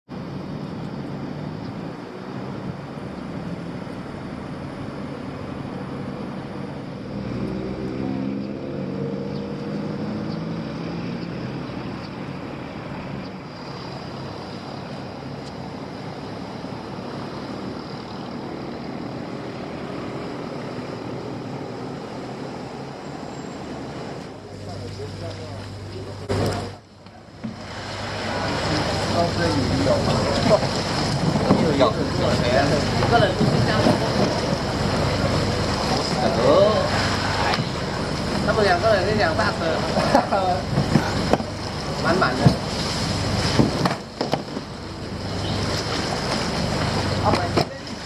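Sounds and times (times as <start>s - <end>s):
engine running: 0.1s - 48.0s.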